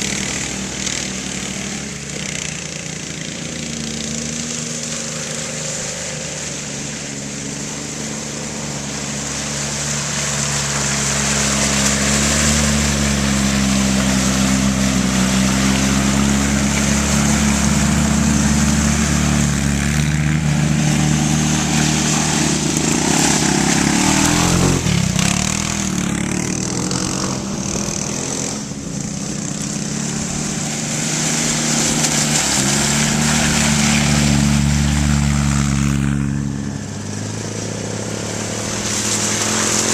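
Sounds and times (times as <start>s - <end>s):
all-terrain vehicle engine: 0.0s - 39.9s.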